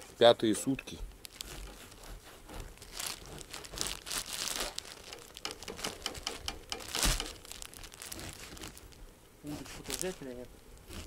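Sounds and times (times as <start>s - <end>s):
plastic wrapping crinkling: 1.1s - 11.0s.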